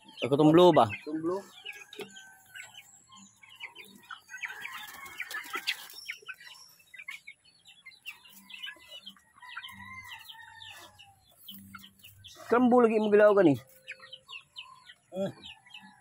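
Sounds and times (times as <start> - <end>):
chicks peeping and clucking: 0.0 - 16.0.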